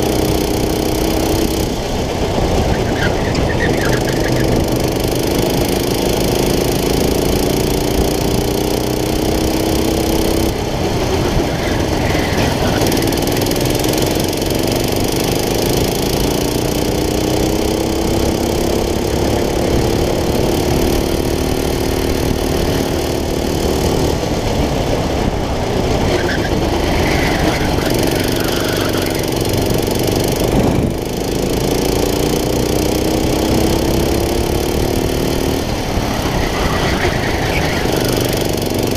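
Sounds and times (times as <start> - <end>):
go-kart engine at high revs: 0.0 - 38.9.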